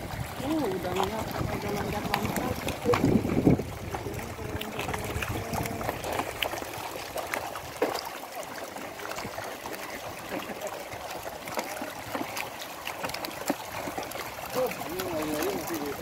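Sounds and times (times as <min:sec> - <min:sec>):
small quick splashes: 0:00.0 - 0:16.0
water splashing and trickling: 0:00.0 - 0:16.0.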